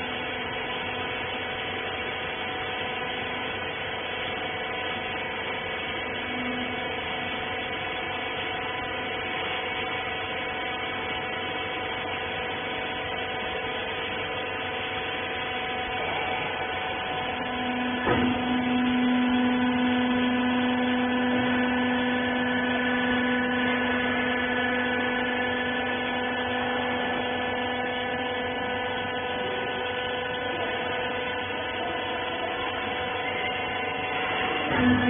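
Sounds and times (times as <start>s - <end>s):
electric motor and hydraulic pump hum: 0.0s - 35.0s.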